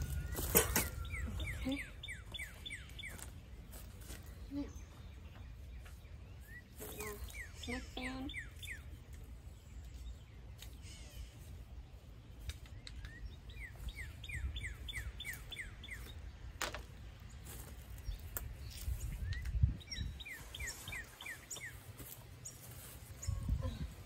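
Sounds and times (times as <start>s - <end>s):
bird chirping: 0.0s - 16.5s, 17.3s - 24.0s.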